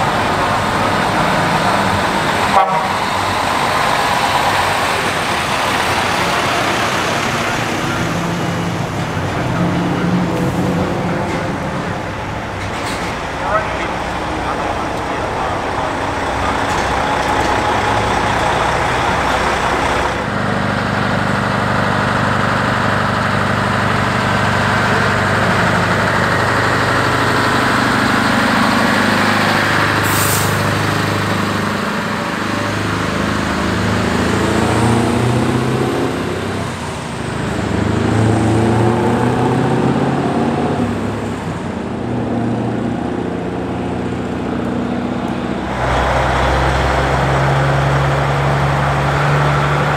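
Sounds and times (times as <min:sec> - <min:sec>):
diesel truck engines passing: 0:00.0 - 0:49.9.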